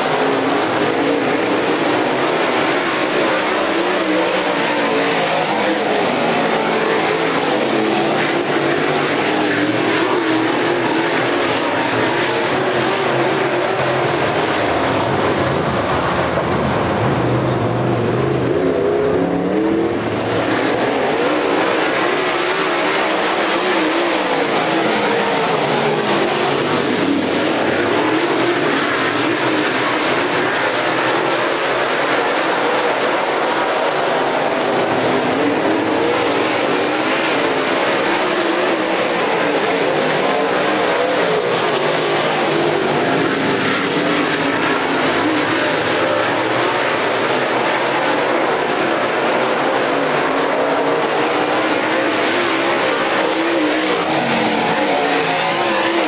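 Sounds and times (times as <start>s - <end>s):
race car engines roaring: 0.0s - 56.0s.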